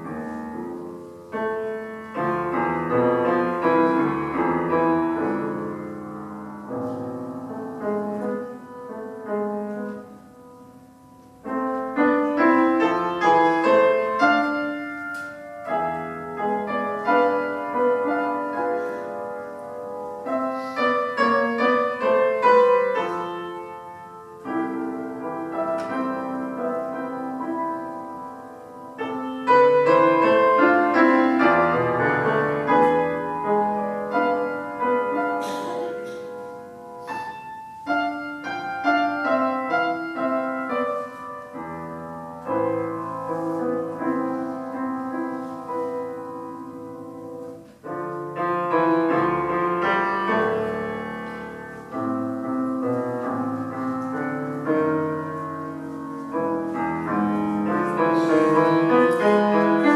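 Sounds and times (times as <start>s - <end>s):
solo piano piece: 0.0s - 59.9s.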